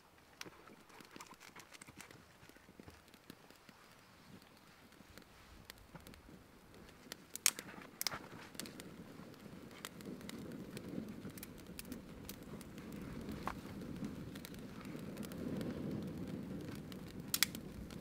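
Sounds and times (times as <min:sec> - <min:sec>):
small fire crackling: 0:00.0 - 0:18.0.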